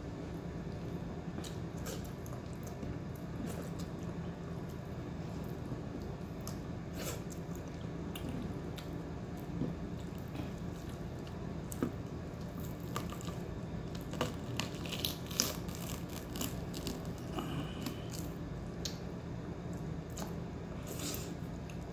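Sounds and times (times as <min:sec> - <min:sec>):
steady low hum: 0:00.0 - 0:21.9
person chewing wetly: 0:00.7 - 0:19.0, 0:19.7 - 0:21.9.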